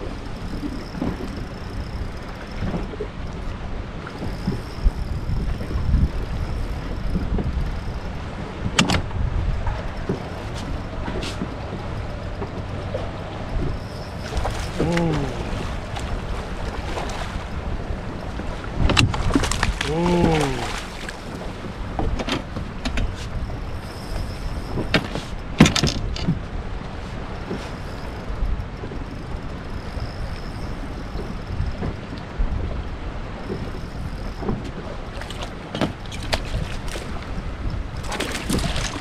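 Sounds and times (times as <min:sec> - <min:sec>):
water around boat: 0:00.0 - 0:39.0
wind: 0:00.0 - 0:39.0.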